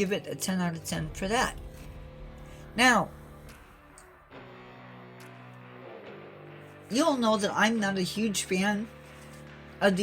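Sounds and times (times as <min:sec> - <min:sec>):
soft background music chords: 0:00.0 - 0:10.0.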